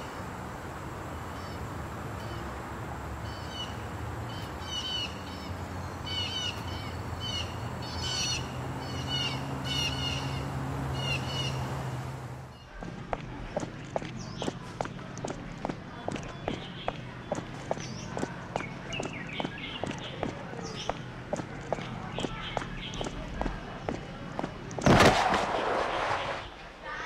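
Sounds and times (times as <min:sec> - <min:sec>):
small birds chirping: 0:03.2 - 0:24.8.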